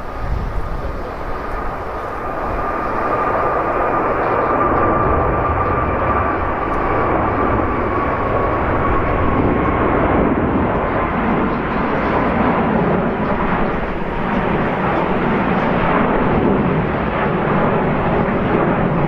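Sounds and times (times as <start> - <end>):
jet airliner engines roaring: 0.0 - 19.0.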